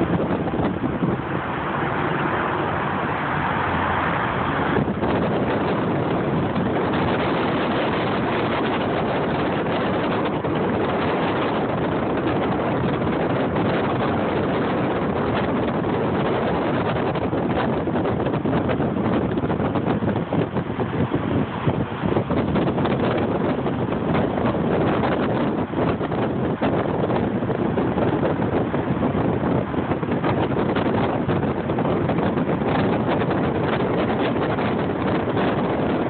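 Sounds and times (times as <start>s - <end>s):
car road and wind noise: 0.0s - 36.0s.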